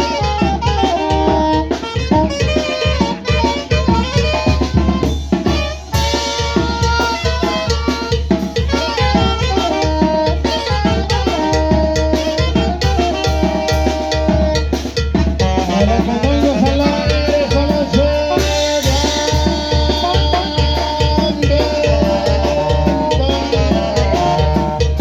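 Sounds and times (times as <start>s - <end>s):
bass drum beat: 0.0s - 25.0s
brass horns playing melody: 0.0s - 25.0s
snare drum: 0.0s - 25.0s.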